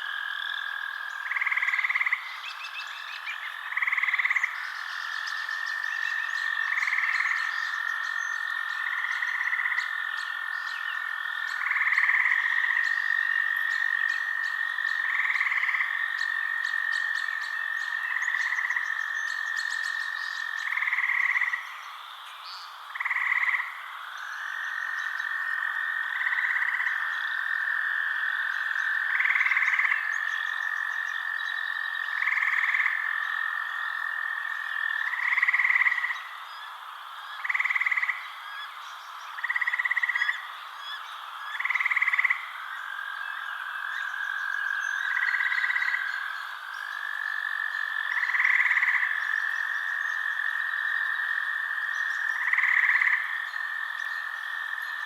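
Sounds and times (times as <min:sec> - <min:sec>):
frogs trilling: 0:00.0 - 0:55.0.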